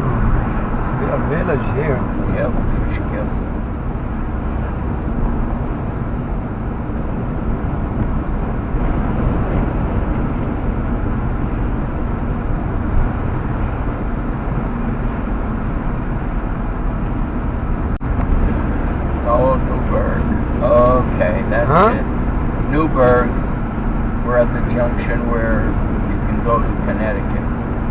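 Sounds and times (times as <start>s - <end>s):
car cabin road rumble: 0.0s - 27.9s.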